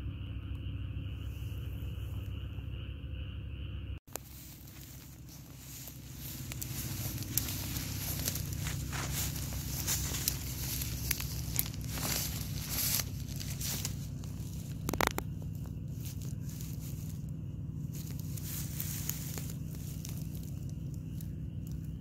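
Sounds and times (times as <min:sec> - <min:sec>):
steady low hum: 0:00.0 - 0:22.0
grass and reeds rustling: 0:04.1 - 0:22.0.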